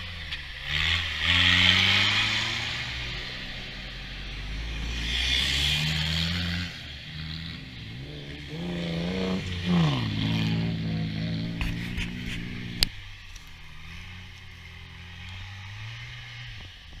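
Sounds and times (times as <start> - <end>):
buggy engines revving: 0.0 - 17.0.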